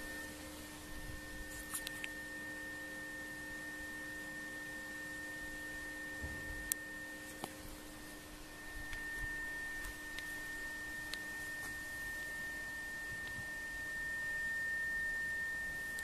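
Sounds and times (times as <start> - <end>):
constant high tone: 0.0 - 16.0
faint steady hum: 0.0 - 16.0.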